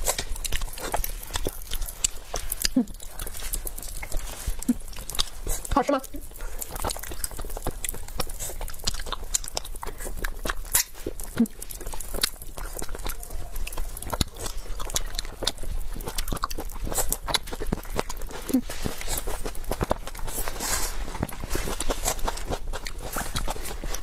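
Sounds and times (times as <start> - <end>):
chewing and biting: 0.0 - 24.0
wet mouth clicks and crunches: 0.0 - 24.0.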